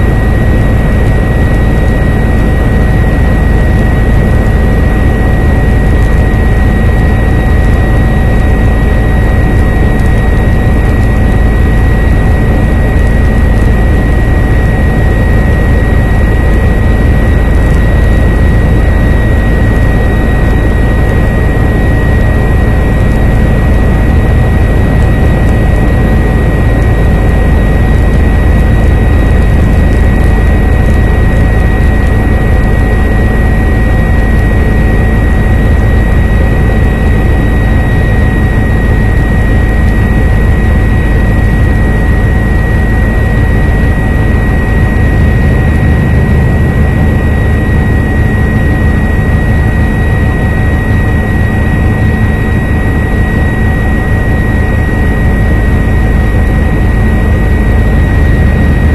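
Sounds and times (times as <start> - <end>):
helicopter rotor and engine: 0.0 - 58.9
high-pitched whine: 0.0 - 58.9.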